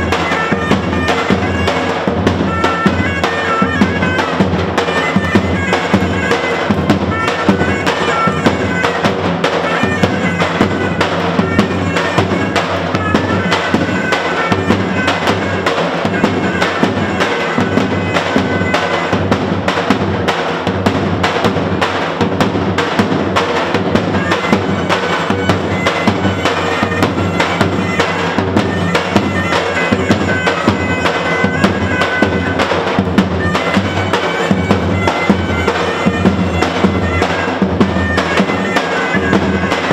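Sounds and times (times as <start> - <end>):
large drums beating: 0.0 - 39.9
reedy wind instrument melody: 0.0 - 39.9.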